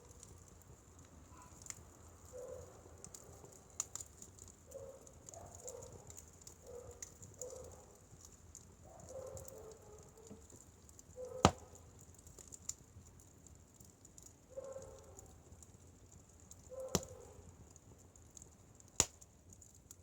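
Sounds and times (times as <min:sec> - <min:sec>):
faint steady hiss: 0:00.0 - 0:20.0
firewood crackling: 0:00.0 - 0:20.0.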